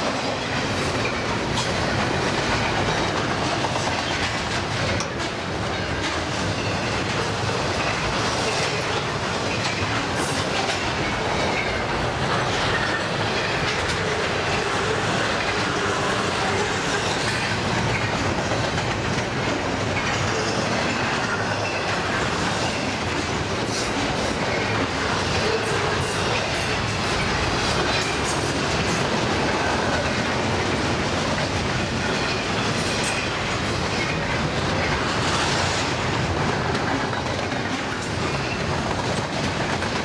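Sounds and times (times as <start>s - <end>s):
steel wheels rumbling on rail: 0.0s - 40.0s
wheels clicking over rail joints: 0.0s - 40.0s.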